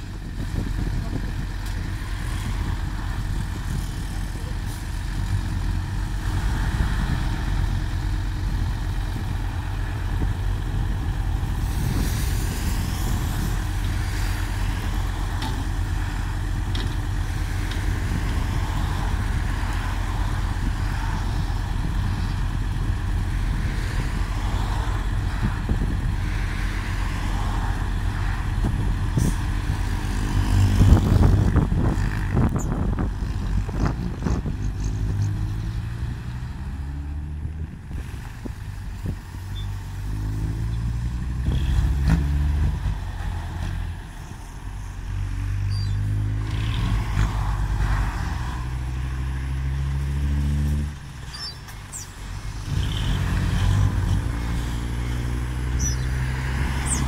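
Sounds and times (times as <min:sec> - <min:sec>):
dump truck diesel engines revving: 0:00.0 - 0:57.0.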